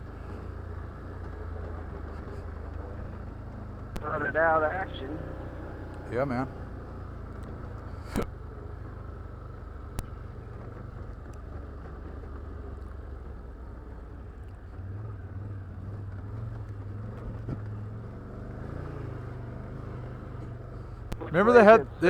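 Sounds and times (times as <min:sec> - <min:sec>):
engine running at low speed: 0:00.0 - 0:22.0.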